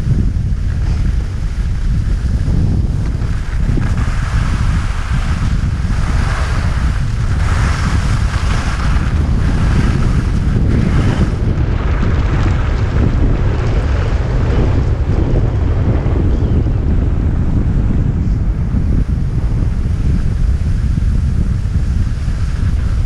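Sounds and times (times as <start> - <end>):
skis scraping over snow: 0.0 - 16.3, 18.0 - 23.0
wind buffeting microphone: 0.0 - 23.0.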